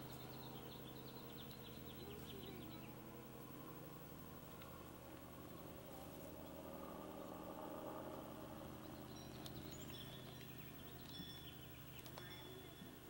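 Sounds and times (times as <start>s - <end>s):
faint bird chirps: 0.0s - 4.9s, 5.5s - 13.0s
steady low hum: 0.0s - 13.0s.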